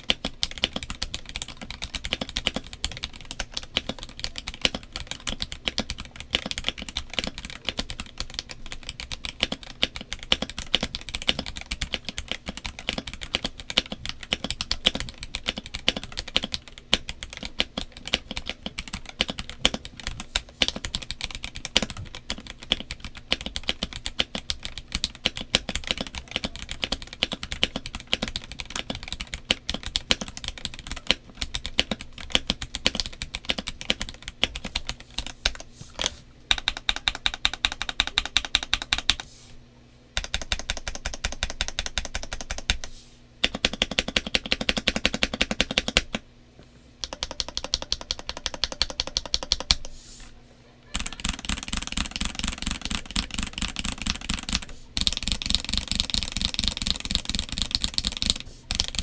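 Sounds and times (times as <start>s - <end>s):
fast keyboard typing: 0.0s - 39.3s, 40.2s - 46.2s, 47.0s - 49.9s, 50.9s - 59.0s.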